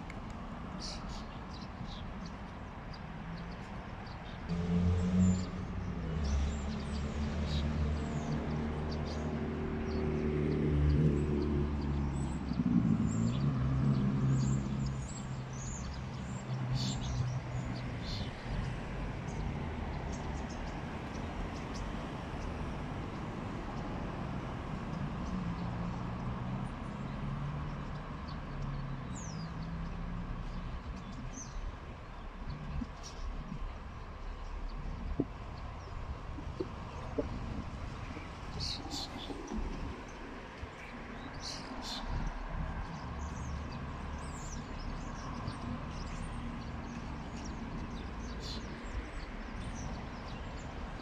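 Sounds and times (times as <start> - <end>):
birds chirping: 0.0 - 51.0
traffic hum: 0.0 - 51.0.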